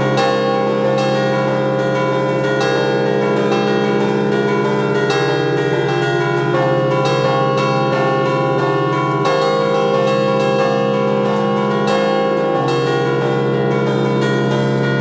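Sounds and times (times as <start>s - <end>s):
church bells ringing melody: 0.0s - 15.0s.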